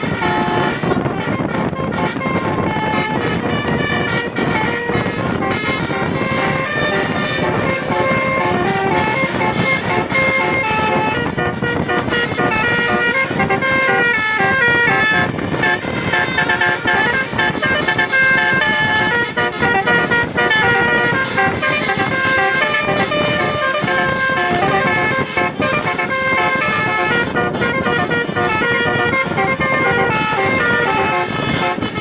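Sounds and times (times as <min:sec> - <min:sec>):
musical air horn melody: 0:00.0 - 0:32.0
steady low rumble: 0:00.0 - 0:32.0.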